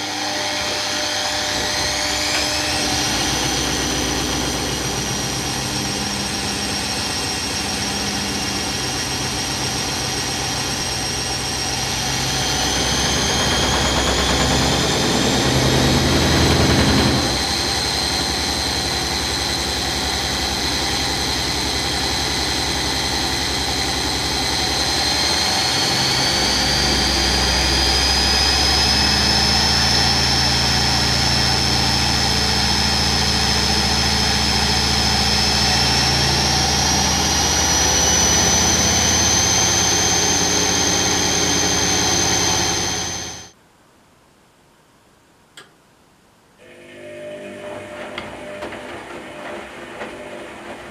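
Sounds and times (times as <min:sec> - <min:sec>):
motor whine rising in pitch: 0:00.0 - 0:43.6
washing machine hum: 0:00.0 - 0:43.6, 0:46.6 - 0:50.9.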